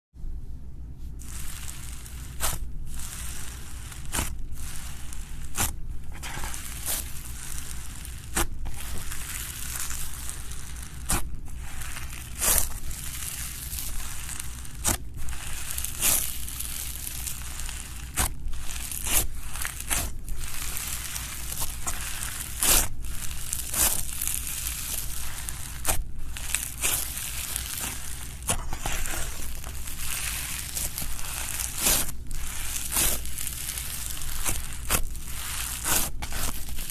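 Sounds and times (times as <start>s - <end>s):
slime crackling and popping: 1.2s - 36.9s.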